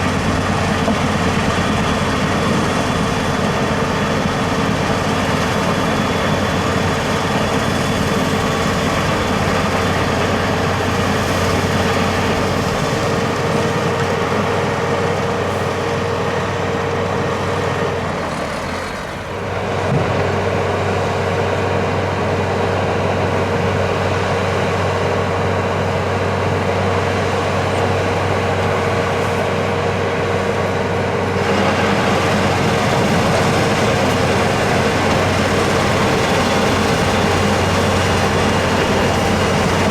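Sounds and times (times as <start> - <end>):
heavy truck engine humming: 0.0 - 39.9.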